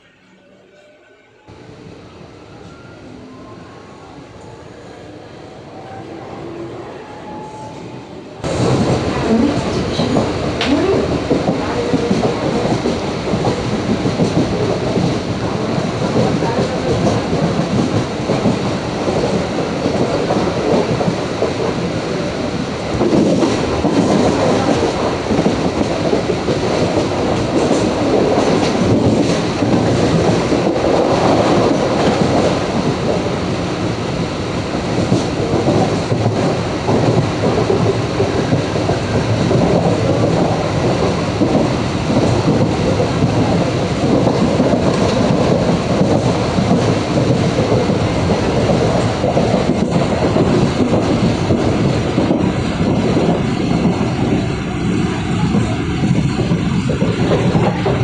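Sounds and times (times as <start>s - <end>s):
train wheels rumbling on rails: 1.5s - 58.0s.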